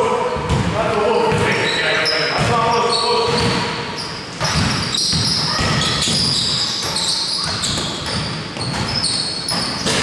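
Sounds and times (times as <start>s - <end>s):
sneakers squeaking on floor: 0.3s - 10.0s.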